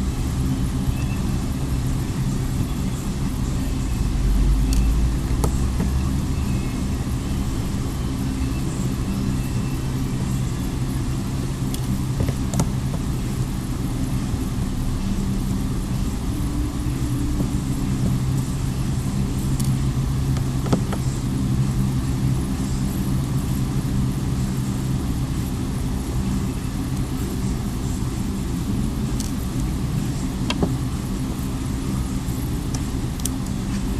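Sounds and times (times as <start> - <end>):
low mechanical hum: 0.0 - 33.9.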